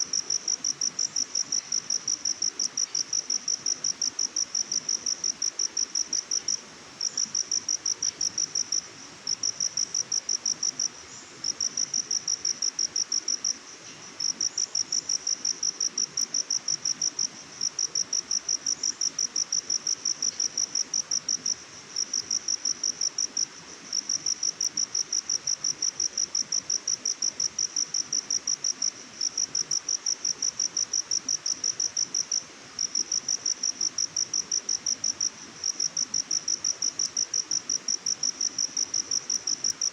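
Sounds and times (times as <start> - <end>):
cricket chirping: 0.0 - 39.9
faint steady hiss: 0.0 - 39.9.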